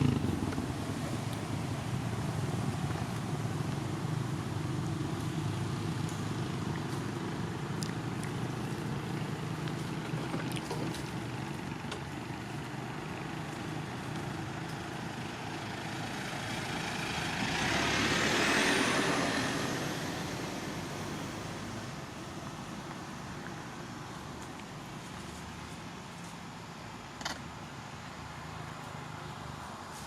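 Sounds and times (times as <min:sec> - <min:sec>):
background noise: 0:00.0 - 0:30.0
road vehicle passing by: 0:00.0 - 0:30.0.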